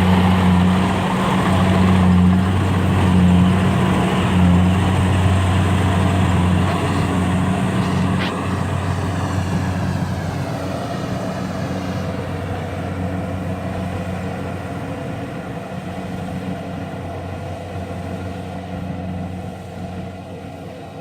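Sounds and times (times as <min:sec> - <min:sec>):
machine engine droning: 0:00.0 - 0:21.0.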